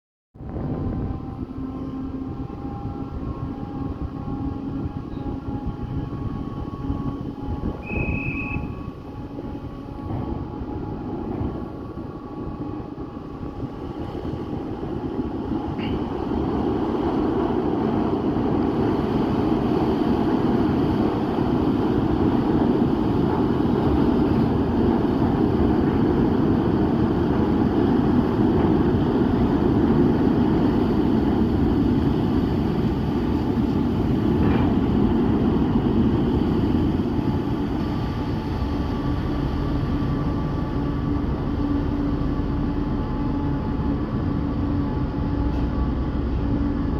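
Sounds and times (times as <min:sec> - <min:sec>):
ferry engines rumbling: 0:00.4 - 0:46.9.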